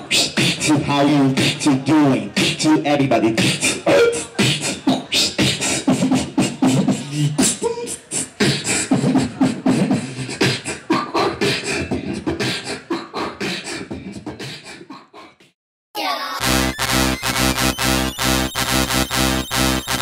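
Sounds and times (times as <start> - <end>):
beatboxing into a microphone: 0.0 - 15.6, 16.4 - 20.0.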